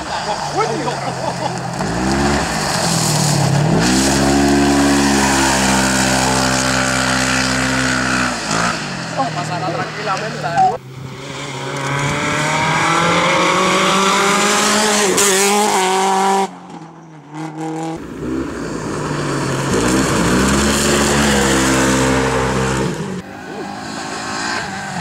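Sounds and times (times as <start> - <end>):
rally car engines at full throttle: 0.0 - 25.0.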